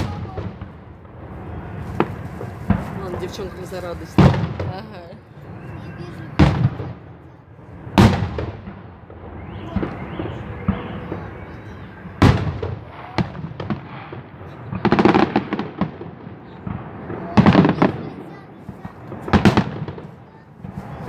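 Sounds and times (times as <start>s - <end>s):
rapid crackling firework bursts: 0.0s - 21.0s.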